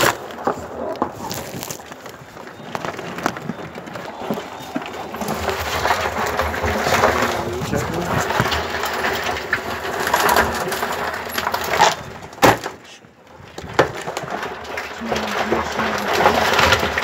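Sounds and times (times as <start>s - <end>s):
crabs scrabbling in plastic bucket: 0.0s - 17.0s.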